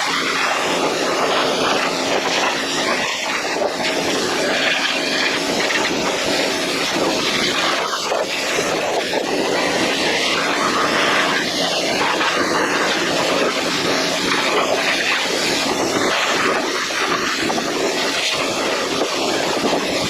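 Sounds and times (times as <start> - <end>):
pressure washer spraying: 0.0 - 20.0.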